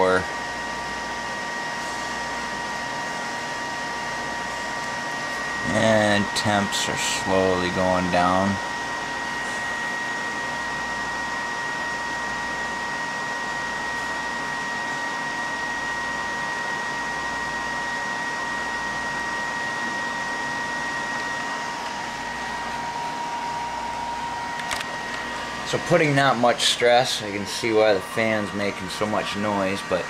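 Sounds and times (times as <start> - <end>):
computer fan whirring with whine: 0.0 - 30.0.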